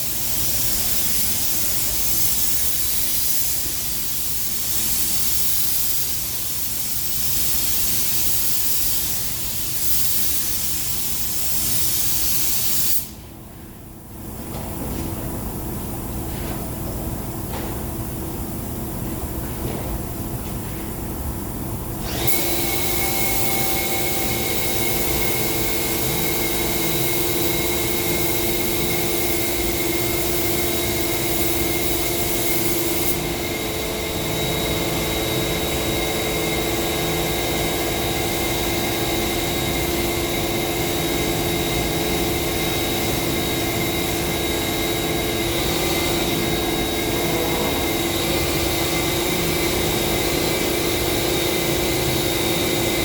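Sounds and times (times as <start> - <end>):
spray painting machine hissing: 0.0 - 13.2, 22.0 - 53.0.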